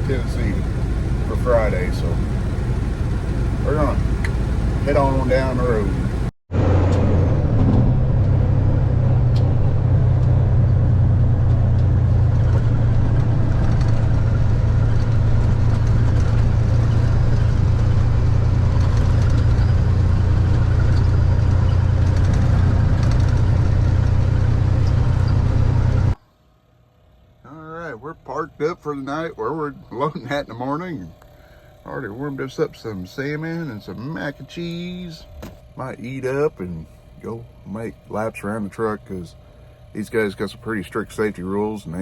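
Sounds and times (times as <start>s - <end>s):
road noise: 0.0s - 26.2s, 27.1s - 42.0s
truck engine drone: 0.0s - 42.0s.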